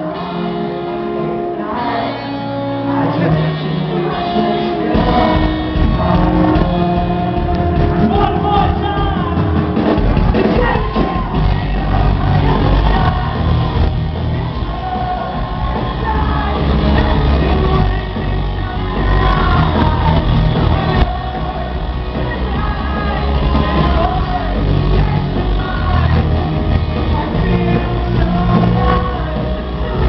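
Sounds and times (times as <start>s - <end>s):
crowd shouting: 0.0s - 30.0s
lead singer singing: 0.0s - 30.0s
live rock band: 0.0s - 30.0s
heavy drums and bass: 4.8s - 30.0s.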